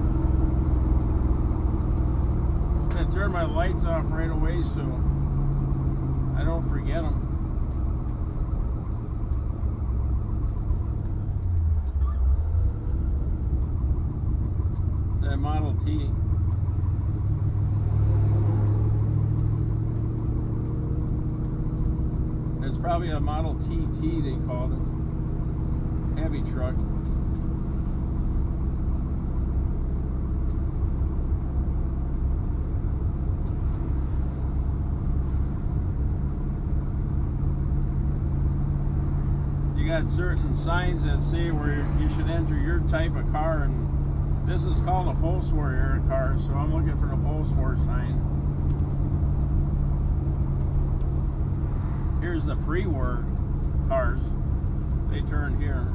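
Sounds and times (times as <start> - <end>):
car engine exhaust note: 0.0 - 55.9.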